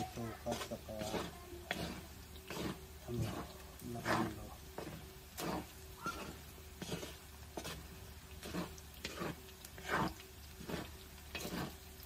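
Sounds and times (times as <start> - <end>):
spatula scraping a wok: 0.0 - 12.0.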